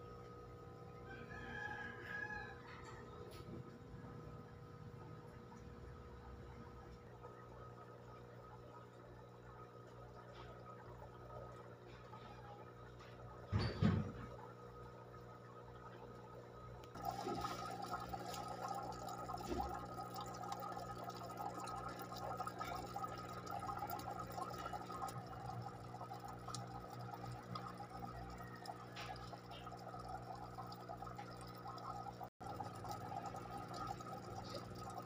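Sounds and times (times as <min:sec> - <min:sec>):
aquarium water bubbling and splashing: 0:00.0 - 0:35.0
low equipment hum: 0:00.0 - 0:35.0.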